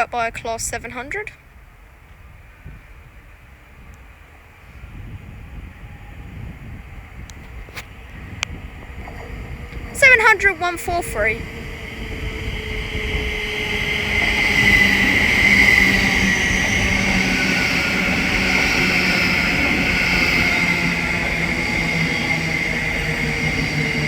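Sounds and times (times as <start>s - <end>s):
train rolling noise: 0.0s - 24.0s.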